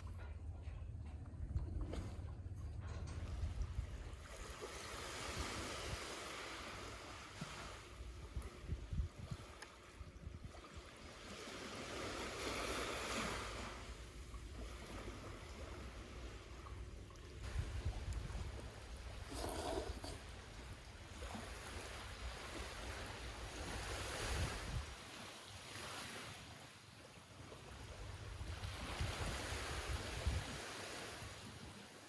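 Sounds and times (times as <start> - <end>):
wind buffeting microphone: 0.0 - 25.1, 27.8 - 31.5
sea waves washing onto beach: 4.2 - 32.0.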